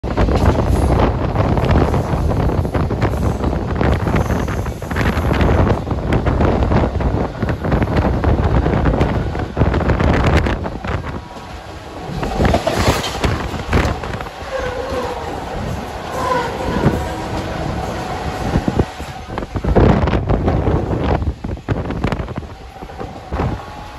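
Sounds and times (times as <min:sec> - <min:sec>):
electric train rumbling: 0:00.0 - 0:23.9
wind buffeting microphone: 0:00.0 - 0:23.9.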